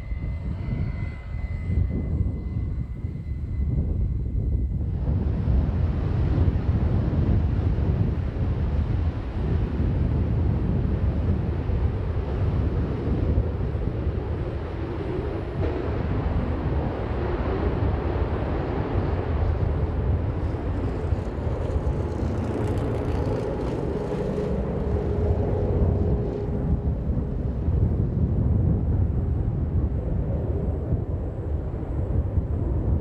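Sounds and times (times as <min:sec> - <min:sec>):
jet engine at full power: 0:00.0 - 0:33.0.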